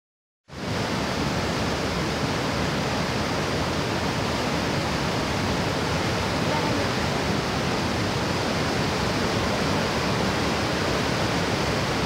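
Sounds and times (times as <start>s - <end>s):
floodwater rushing: 0.5s - 12.0s.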